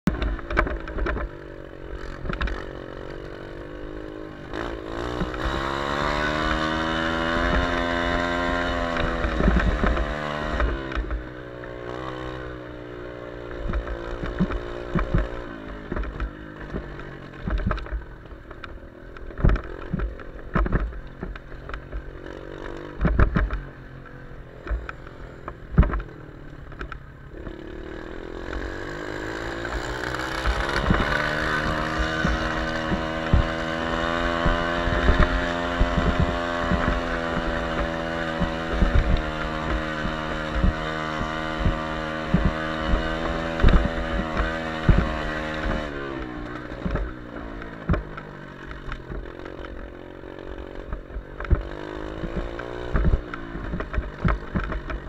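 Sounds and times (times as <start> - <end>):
atv engine running: 0.1 - 55.0
sharp knocks and thumps: 4.5 - 11.3, 13.6 - 23.7, 24.6 - 26.1, 28.5 - 49.8, 50.6 - 55.0.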